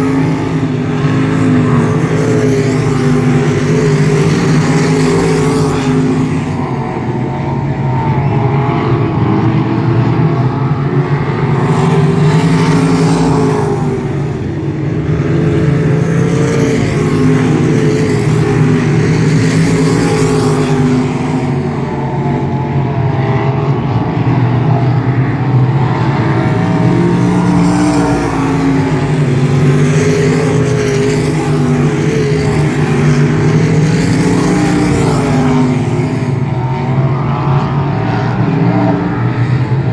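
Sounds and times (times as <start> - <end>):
race car engines lapping: 0.0 - 39.9.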